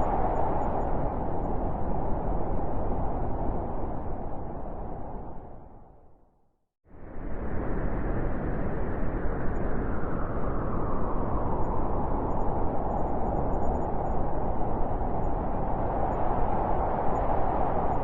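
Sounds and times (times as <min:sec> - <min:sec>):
blizzard wind blowing: 0:00.0 - 0:06.2, 0:06.9 - 0:18.0.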